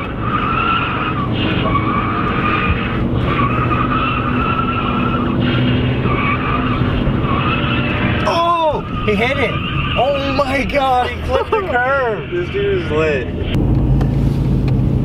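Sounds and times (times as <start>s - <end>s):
tyres squealing: 0.0s - 13.5s
car engine: 0.0s - 15.0s.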